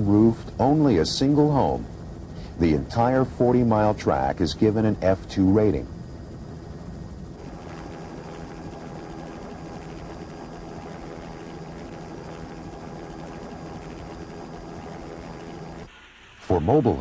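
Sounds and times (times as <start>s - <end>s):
engine running steadily: 0.0s - 15.9s.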